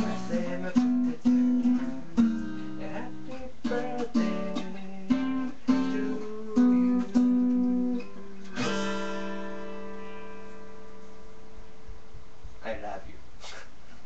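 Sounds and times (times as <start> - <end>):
acoustic guitar playing: 0.0 - 12.4.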